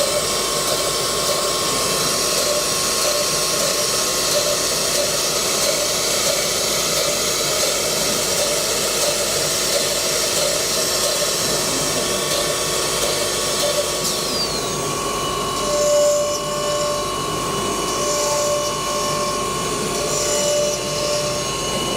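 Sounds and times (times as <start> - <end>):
cnc router running: 0.0 - 21.9.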